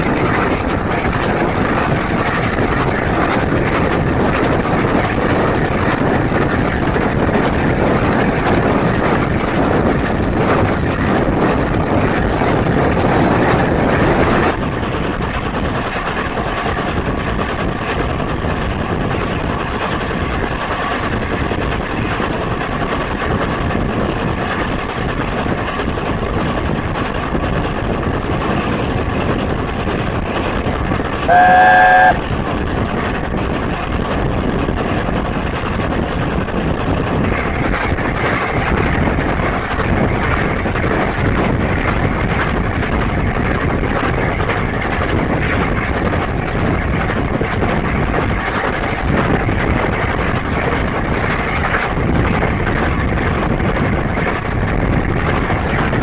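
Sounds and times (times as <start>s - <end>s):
train running noise: 0.0s - 56.0s.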